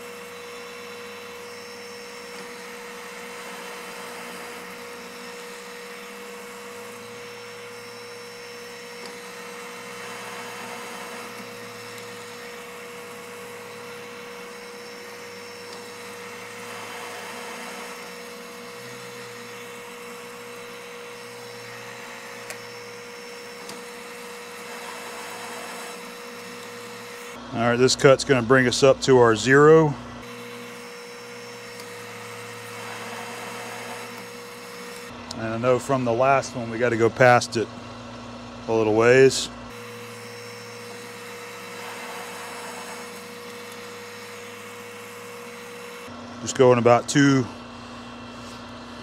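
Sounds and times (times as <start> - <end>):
lathe motor whining: 0.0 - 49.0.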